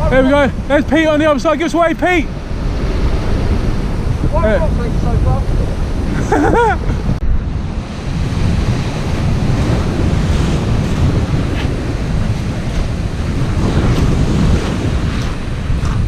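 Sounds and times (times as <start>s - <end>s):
choppy sea breaking on shore: 0.0s - 16.0s
wind buffeting microphone: 0.0s - 16.0s.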